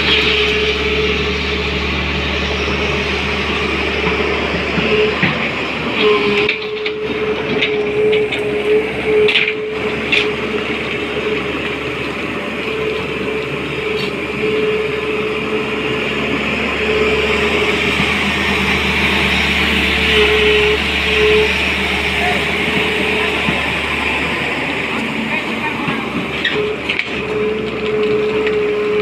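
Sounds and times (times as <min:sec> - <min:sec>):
engine whine: 0:00.0 - 0:29.0
excavator diesel engine: 0:00.0 - 0:29.0.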